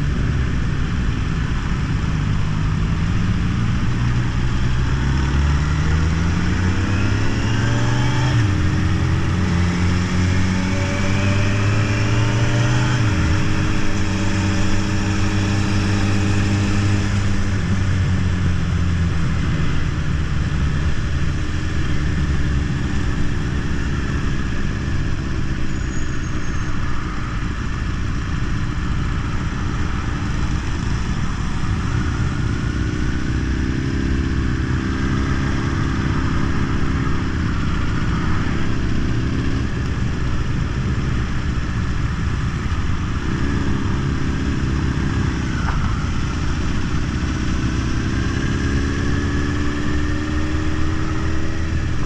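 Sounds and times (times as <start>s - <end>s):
motorcycle engine accelerating: 0.0s - 52.0s
wind and road noise: 0.0s - 52.0s.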